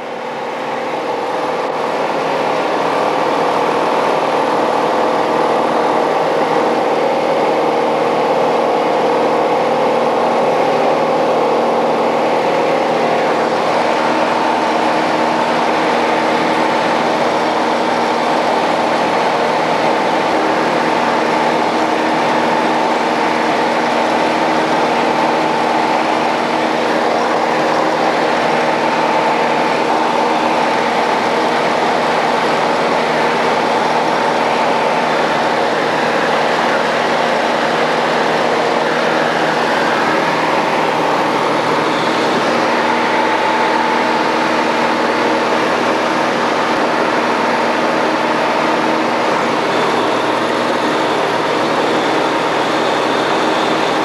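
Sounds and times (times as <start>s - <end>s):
propeller plane engine in cabin: 0.0s - 54.0s.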